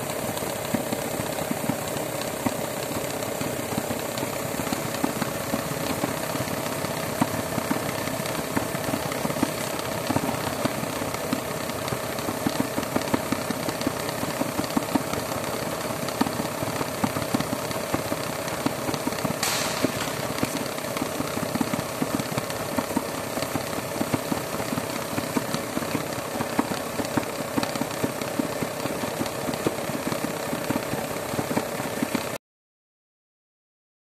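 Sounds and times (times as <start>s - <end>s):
printing press running: 0.0s - 32.4s.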